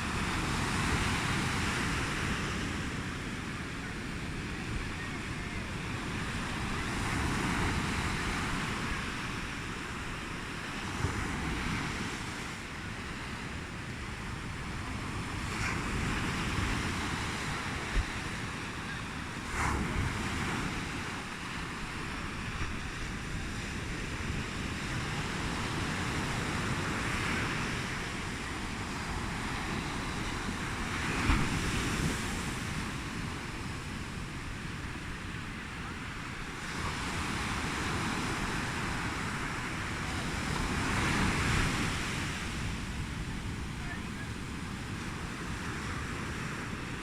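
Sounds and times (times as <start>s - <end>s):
ocean surf washing in: 0.0s - 47.0s
wind rumble on microphone: 0.0s - 47.0s.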